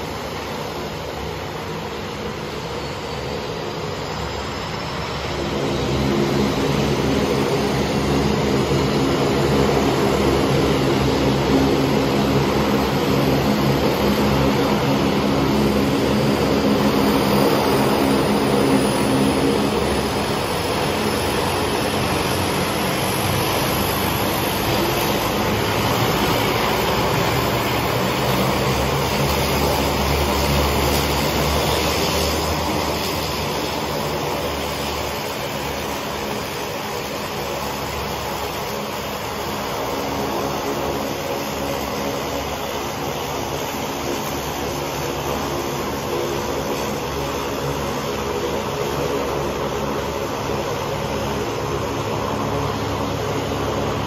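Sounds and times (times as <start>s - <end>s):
propeller engine running: 0.0s - 54.0s.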